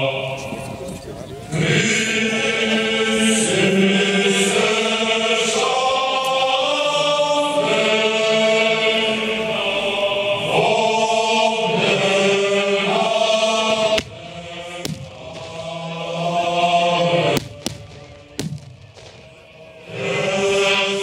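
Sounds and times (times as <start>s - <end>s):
choir chanting a hymn: 0.0s - 21.0s.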